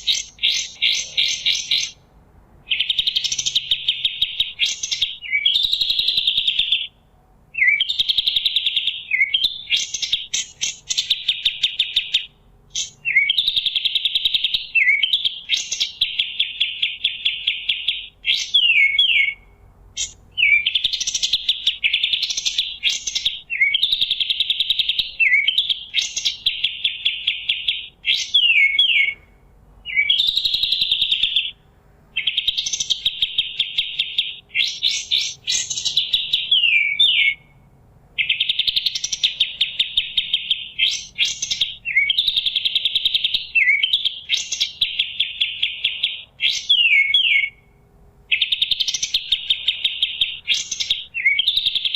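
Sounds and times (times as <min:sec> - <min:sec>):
songbird singing trilled phrases: 0:00.0 - 0:51.9.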